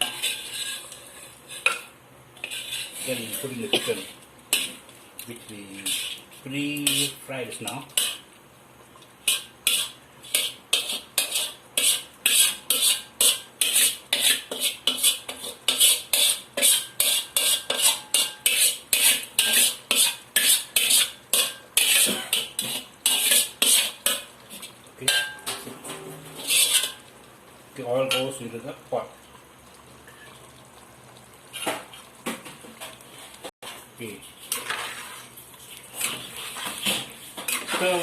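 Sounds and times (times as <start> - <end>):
spoon scraping a cooking pot: 0.0 - 5.0, 5.7 - 8.3, 9.2 - 27.1, 31.5 - 32.2, 32.8 - 38.0.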